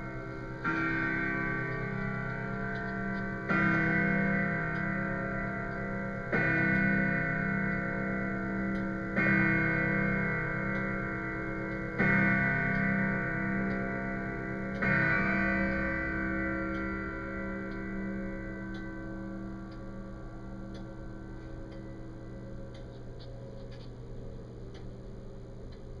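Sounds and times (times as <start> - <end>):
clock chime striking: 0.0 - 24.3
clock ticking: 0.0 - 26.0.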